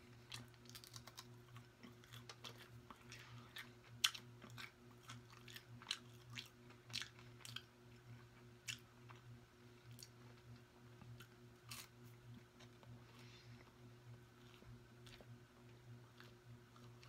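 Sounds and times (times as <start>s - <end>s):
crunchy chewing with mouth clicks: 0.0s - 17.0s
faint low hum: 0.0s - 17.0s.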